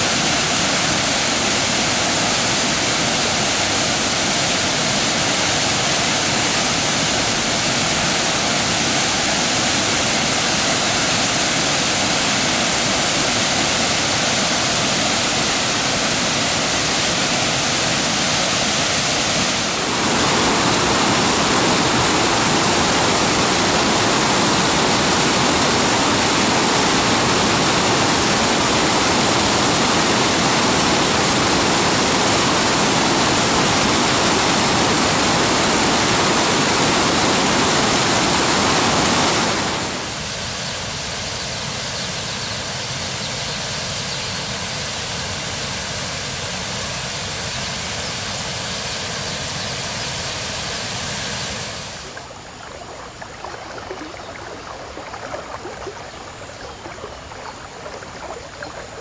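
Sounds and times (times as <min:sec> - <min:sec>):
waterfall rushing over rocks: 0:00.0 - 0:40.4, 0:50.2 - 0:59.0.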